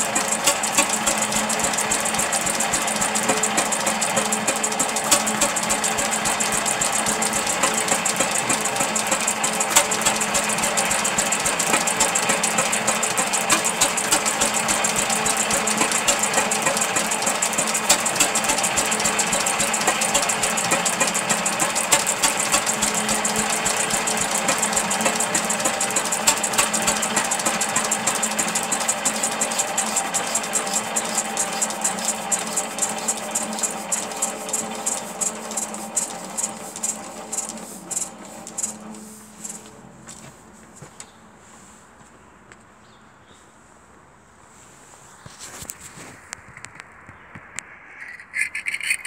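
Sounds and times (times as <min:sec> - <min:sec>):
stationary engine knocking: 0:00.0 - 0:39.7.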